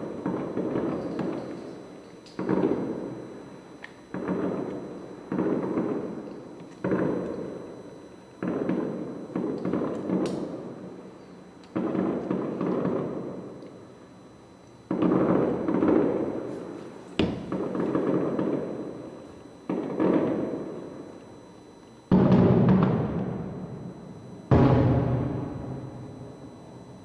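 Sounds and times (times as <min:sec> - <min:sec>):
distant fireworks booms: 0:00.0 - 0:01.5, 0:02.4 - 0:03.4, 0:04.1 - 0:11.0, 0:11.7 - 0:14.0, 0:14.8 - 0:21.2, 0:22.0 - 0:27.0.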